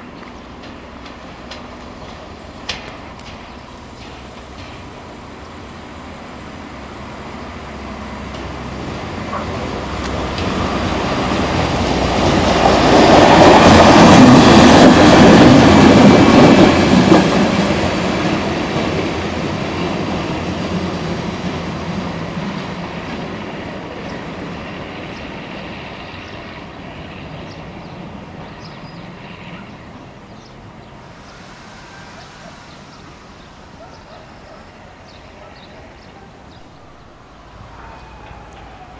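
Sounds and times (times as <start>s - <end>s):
diesel railbus passing: 0.0s - 38.9s.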